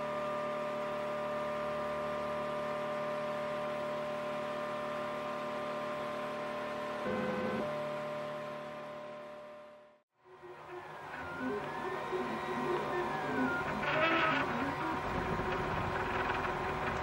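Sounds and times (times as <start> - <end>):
three d printer whine: 0.0 - 17.0.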